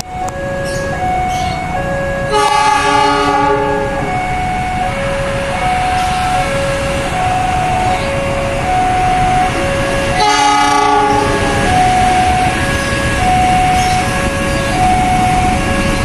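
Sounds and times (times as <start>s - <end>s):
level crossing alarm two tones: 0.0s - 16.0s
locomotive horn: 0.1s - 16.0s.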